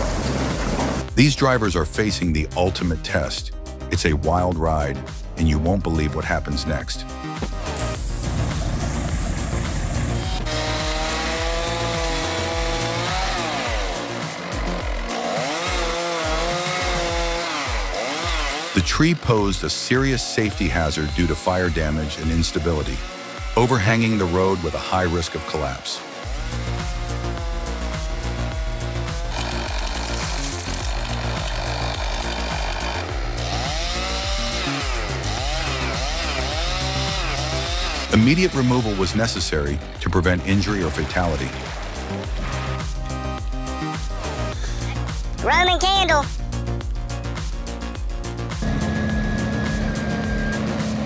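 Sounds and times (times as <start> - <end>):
chainsaw running at high revs: 0.0 - 1.6, 7.1 - 51.0
music with a bass beat: 0.0 - 23.7, 26.2 - 51.0.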